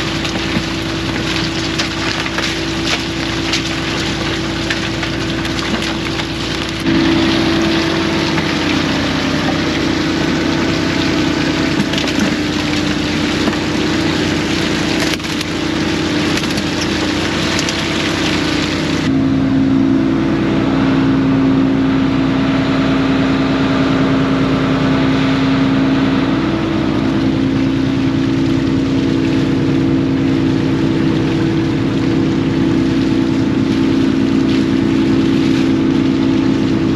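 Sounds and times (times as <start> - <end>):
boat engine running: 0.0 - 36.9
broad rushing noise: 0.0 - 36.9.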